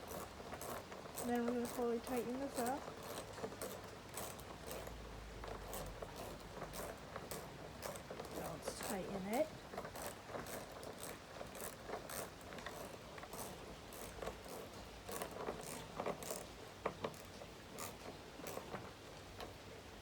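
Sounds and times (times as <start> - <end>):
socket ratchet clicking: 0.0 - 8.4, 9.9 - 18.6.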